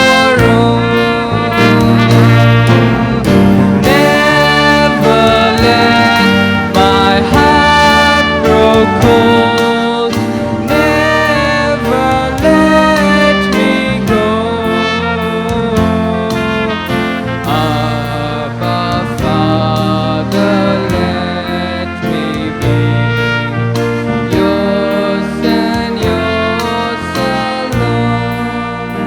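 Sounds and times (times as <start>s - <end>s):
musical accompaniment: 0.0s - 29.0s
trumpet playing hymn melody: 0.0s - 29.0s.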